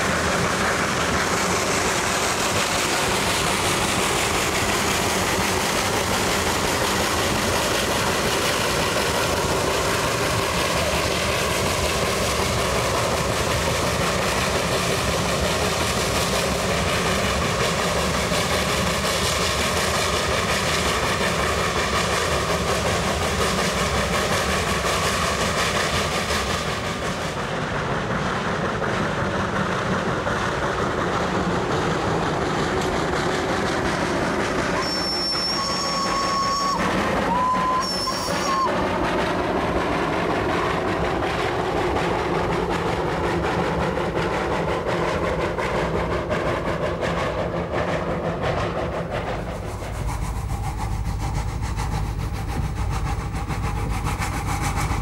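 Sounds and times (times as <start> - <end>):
passenger cars rolling on rack track: 0.0 - 55.0
steam locomotive climbing: 0.0 - 55.0.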